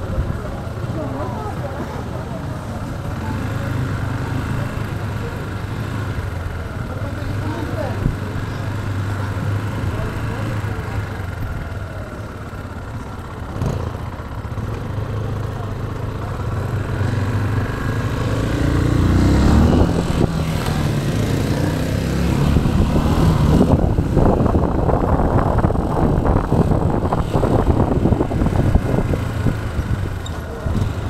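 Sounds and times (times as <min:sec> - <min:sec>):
motorcycle engine: 0:00.0 - 0:31.0
road noise: 0:00.0 - 0:31.0.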